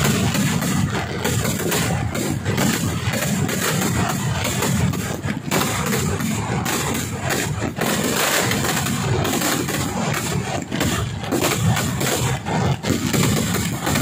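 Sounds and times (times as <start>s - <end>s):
fireworks explosions and crackling: 0.0s - 14.0s.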